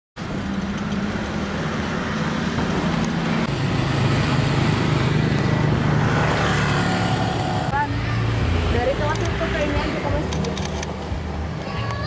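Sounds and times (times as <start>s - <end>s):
road traffic: 0.2s - 12.0s
vehicle engine humming: 0.2s - 12.0s.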